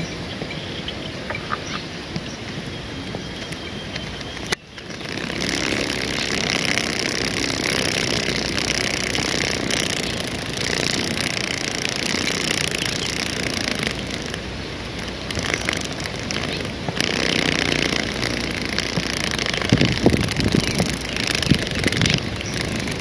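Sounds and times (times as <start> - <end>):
insect wings buzzing: 3.1 - 23.0.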